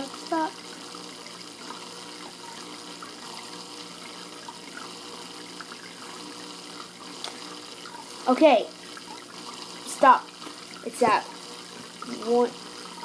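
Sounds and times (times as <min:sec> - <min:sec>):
water trickling in fish tank: 0:00.0 - 0:13.0.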